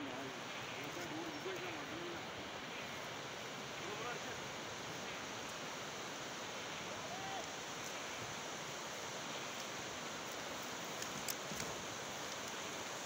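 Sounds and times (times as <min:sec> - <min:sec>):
surf on sandy beach: 0:00.0 - 0:13.0.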